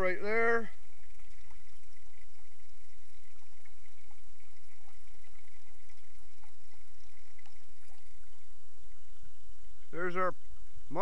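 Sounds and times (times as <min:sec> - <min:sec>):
water swirling in a bowl: 0:00.0 - 0:11.0.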